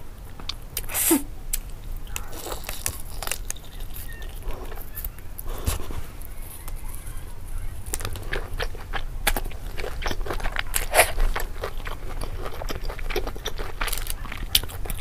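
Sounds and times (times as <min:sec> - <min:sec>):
chewing food: 0:01.5 - 0:15.0.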